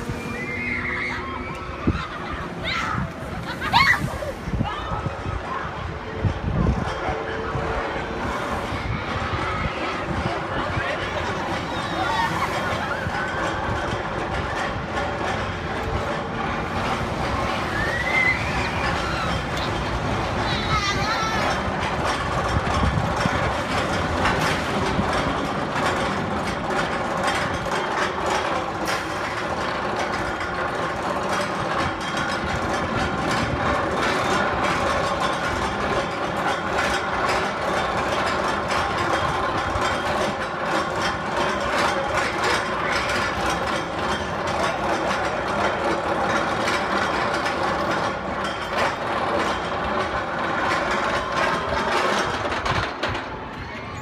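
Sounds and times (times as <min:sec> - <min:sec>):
ride machinery whine: 0:00.0 - 0:54.0.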